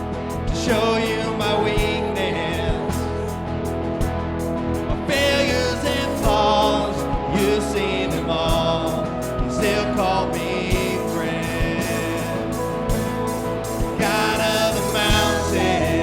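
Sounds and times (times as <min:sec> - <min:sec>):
guitar chords: 0:00.0 - 0:16.0
keyboard chords: 0:00.0 - 0:16.0
steady drum beat: 0:00.0 - 0:16.0
voices singing: 0:00.0 - 0:16.0.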